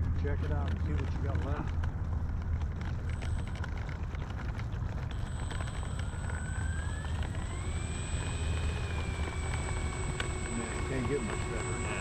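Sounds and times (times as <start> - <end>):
electric motors and propellers whining: 0.0 - 12.0.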